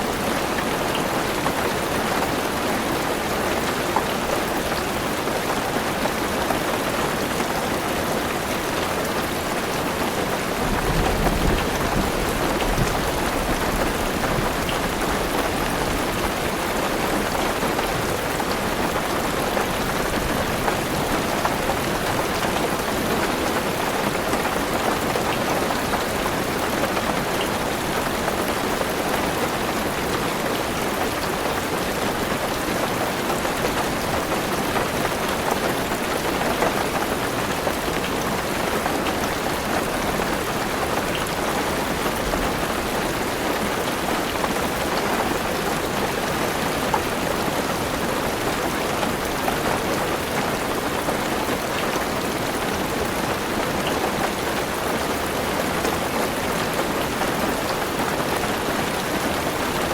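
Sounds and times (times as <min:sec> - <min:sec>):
heavy rain on a car roof: 0:00.0 - 0:59.9.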